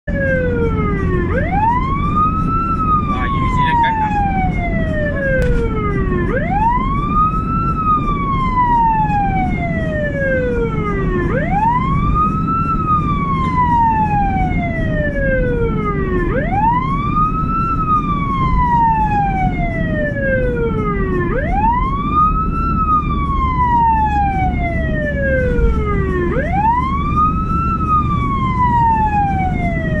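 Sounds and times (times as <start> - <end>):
ambulance siren wailing: 0.0 - 30.0
low rumble: 0.1 - 30.0.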